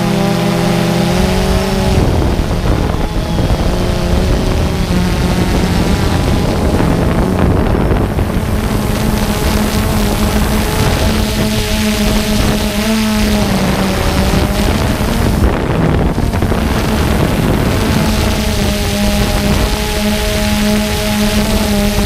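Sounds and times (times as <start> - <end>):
drone motors humming: 0.0 - 22.0
wind on microphone: 0.0 - 22.0.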